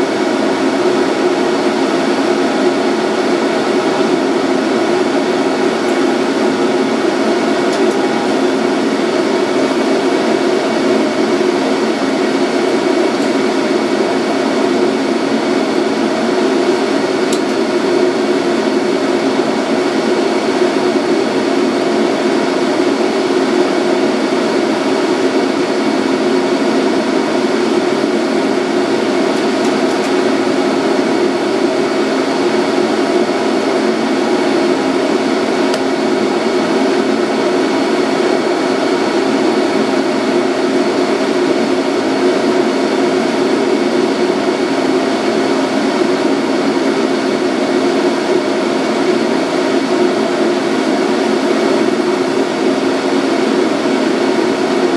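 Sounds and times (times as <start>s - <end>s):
tram equipment hum: 0.0s - 54.9s.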